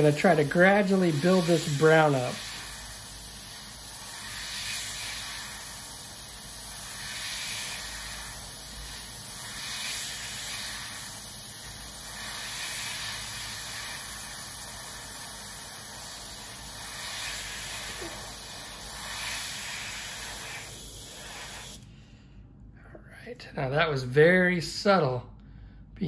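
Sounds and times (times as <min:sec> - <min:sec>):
airbrush hissing: 0:00.0 - 0:21.9.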